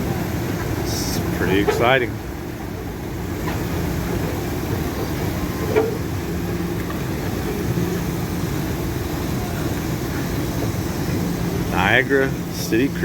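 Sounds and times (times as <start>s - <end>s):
boat engines idling: 0.0s - 13.0s.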